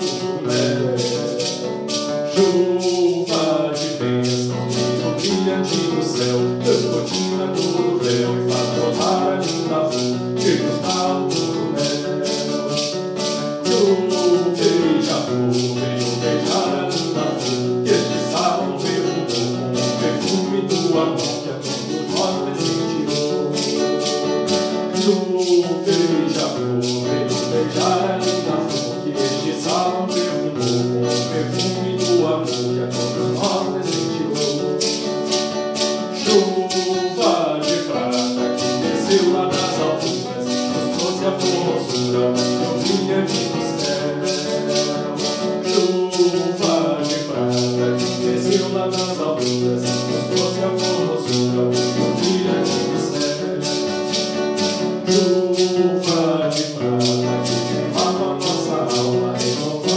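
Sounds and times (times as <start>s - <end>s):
acoustic guitar: 0.0s - 59.9s
maraca shaking a steady beat: 0.0s - 59.9s
person singing a hymn: 0.0s - 59.9s.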